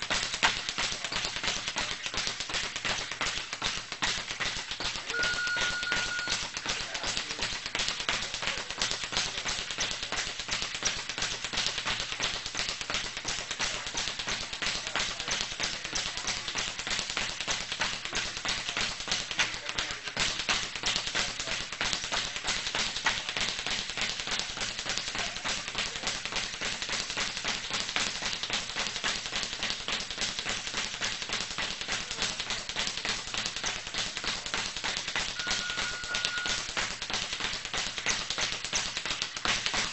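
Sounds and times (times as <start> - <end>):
rapid tapping impacts: 0.0 - 39.9.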